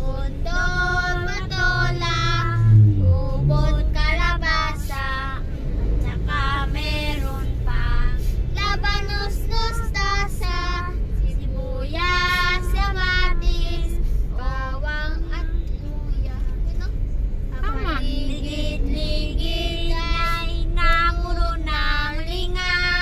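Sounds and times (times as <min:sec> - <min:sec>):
low rumble of moving car: 0:00.0 - 0:23.0.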